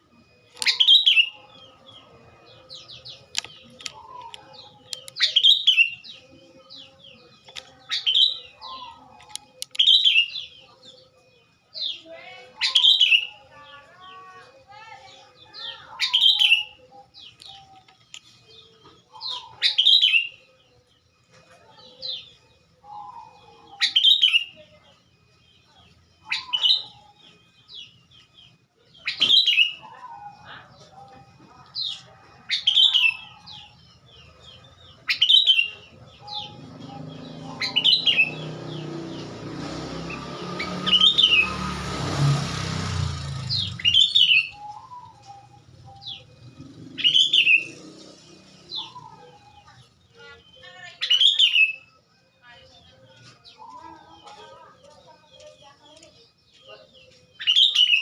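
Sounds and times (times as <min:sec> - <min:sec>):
bird calling: 0:00.0 - 0:52.0, 0:52.7 - 0:58.0.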